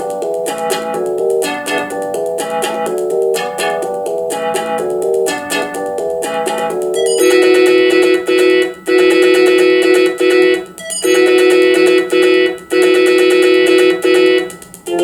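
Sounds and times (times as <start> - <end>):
synthesised chord repeating: 0.0 - 15.0.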